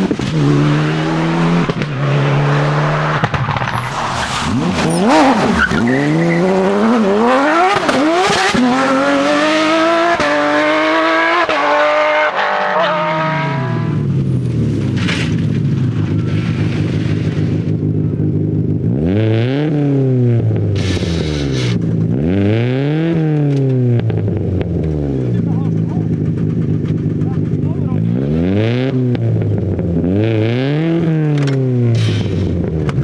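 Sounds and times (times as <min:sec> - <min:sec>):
engine revving: 0:00.0 - 0:33.0
rally car engine accelerating: 0:00.0 - 0:33.0.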